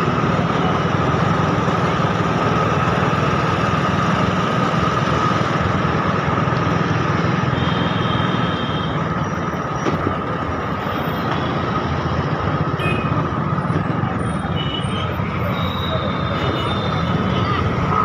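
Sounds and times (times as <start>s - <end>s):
traffic engines rumbling: 0.0s - 18.0s.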